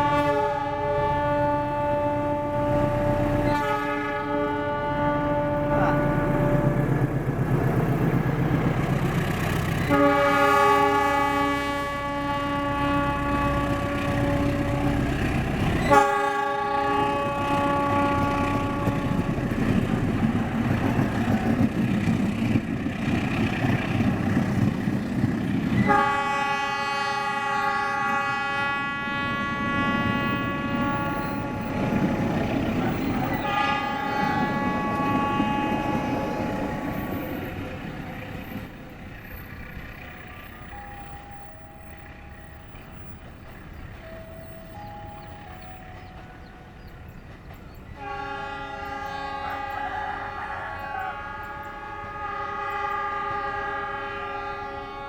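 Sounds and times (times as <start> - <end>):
locomotive horn blast: 0.0 - 7.1, 9.8 - 21.6, 23.8 - 43.2, 48.0 - 55.0
train wheels rumbling on rails: 0.0 - 55.0.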